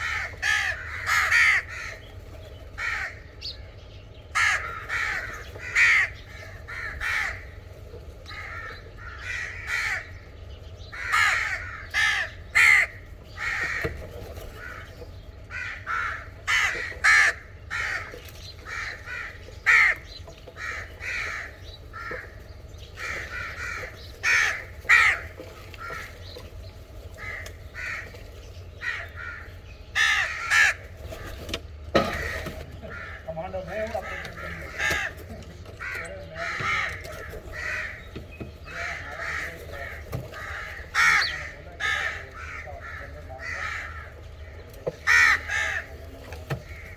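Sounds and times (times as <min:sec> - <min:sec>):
crows cawing: 0:00.0 - 0:46.9.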